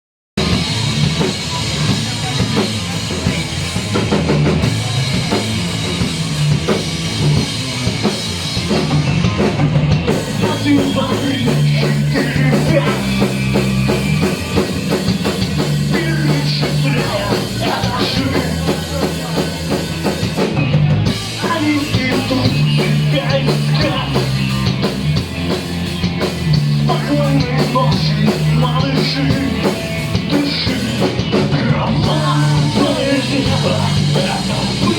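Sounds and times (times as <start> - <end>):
bass line: 0.4 - 34.9
drum kit: 0.4 - 34.9
rock band playing: 0.4 - 34.9.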